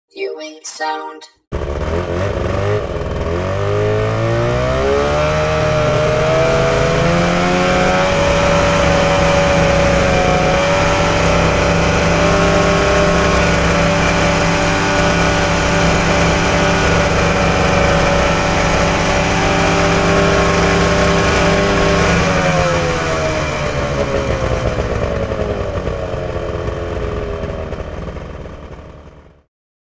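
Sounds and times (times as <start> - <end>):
snowmobile engine accelerating: 1.6 - 29.3.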